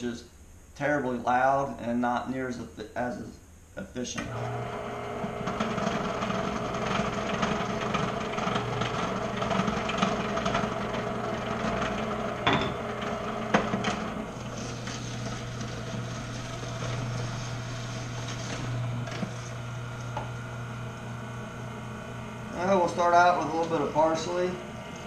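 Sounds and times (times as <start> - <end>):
juicer humming and grinding: 4.2 - 25.0.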